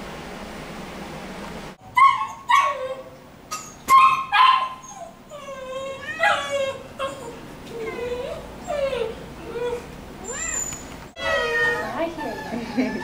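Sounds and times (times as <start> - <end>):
animal crying: 2.0 - 13.0.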